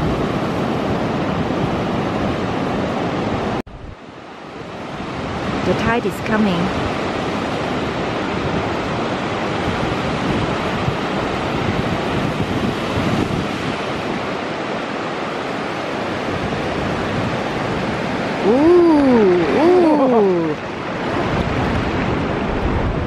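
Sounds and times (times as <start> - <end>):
waves breaking on sand: 0.0 - 23.0.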